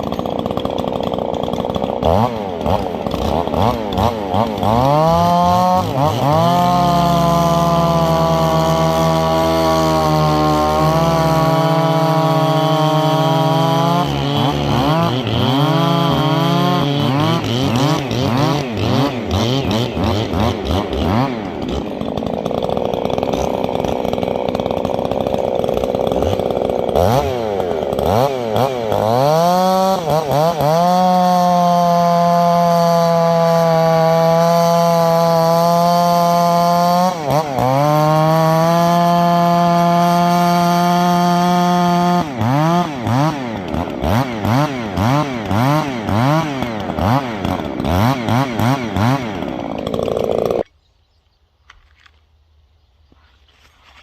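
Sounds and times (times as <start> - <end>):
chainsaw revving: 0.0 - 50.7.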